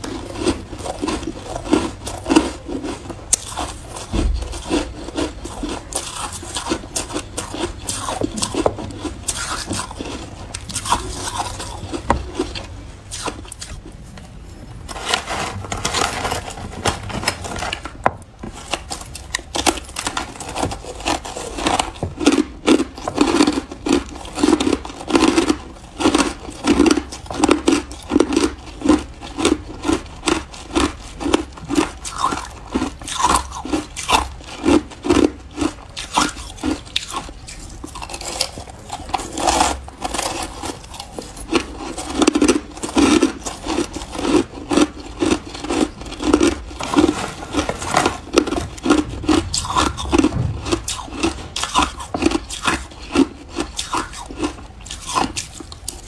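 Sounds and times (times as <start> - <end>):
crunchy chewing of ice: 0.0 - 56.0.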